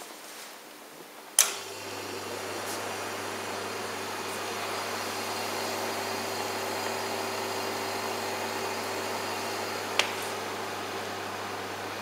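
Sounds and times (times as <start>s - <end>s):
refrigeration unit humming: 1.4s - 12.0s.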